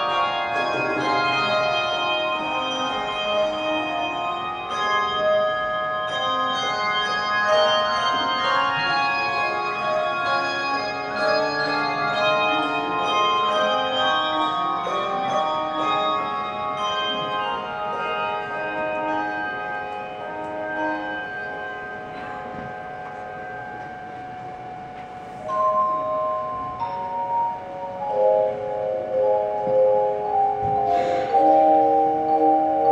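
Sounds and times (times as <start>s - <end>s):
handbell choir ringing: 0.0s - 32.9s.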